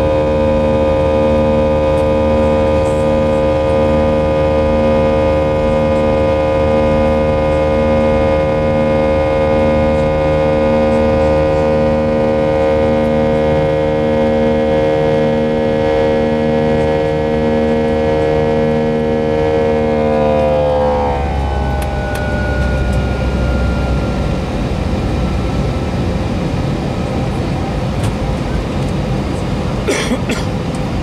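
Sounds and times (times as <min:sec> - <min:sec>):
jet engines whining in cabin: 0:00.0 - 0:31.0
low pulsing drone: 0:00.0 - 0:31.0.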